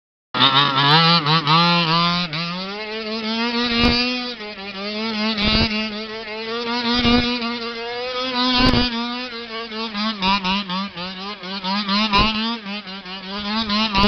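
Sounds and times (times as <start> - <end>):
small two-stroke engine revving: 0.4 - 14.0.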